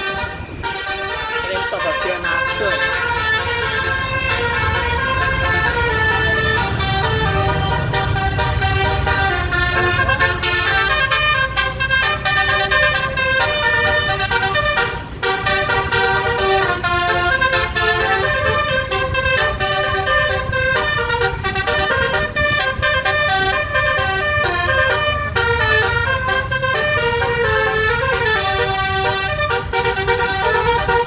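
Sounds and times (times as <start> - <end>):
bus musical air horn tune: 0.0 - 31.0.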